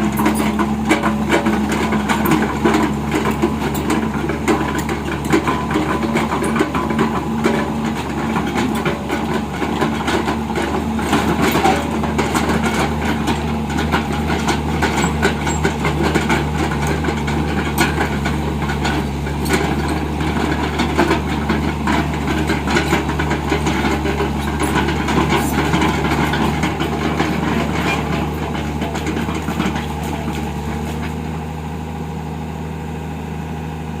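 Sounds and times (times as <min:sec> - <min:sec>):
knocks and clanks: 0:00.0 - 0:31.4
excavator diesel engine running: 0:00.0 - 0:34.0.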